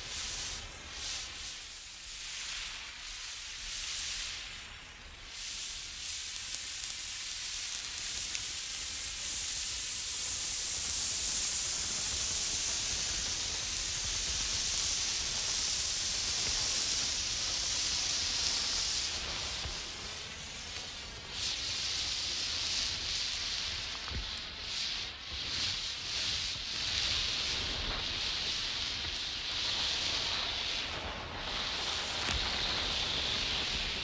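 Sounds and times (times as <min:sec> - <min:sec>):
flare sizzling hiss: 0:00.0 - 0:34.0
faint crackles: 0:03.2 - 0:34.0.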